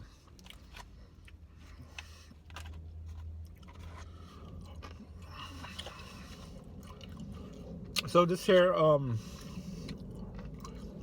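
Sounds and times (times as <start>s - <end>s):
person chewing crunchy food: 0.0s - 8.1s, 9.2s - 11.0s.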